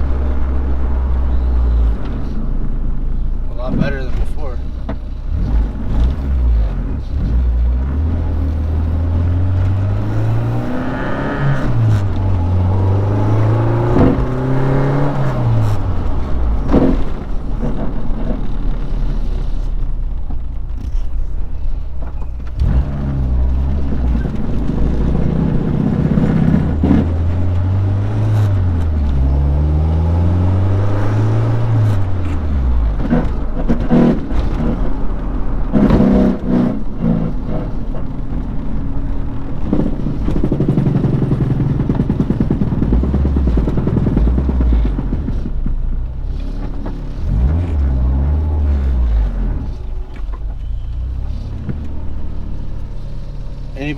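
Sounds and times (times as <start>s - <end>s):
car engine accelerating: 0.0s - 53.9s.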